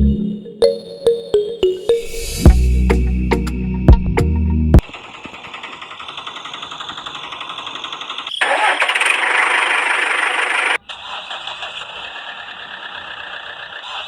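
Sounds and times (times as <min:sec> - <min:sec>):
engine running: 0:02.5 - 0:14.0.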